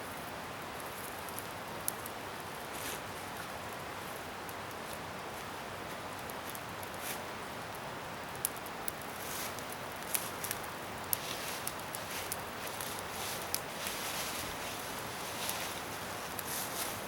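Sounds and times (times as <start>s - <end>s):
bonfire hissing: 0.0s - 17.0s
fire crackles and pops: 0.0s - 17.0s.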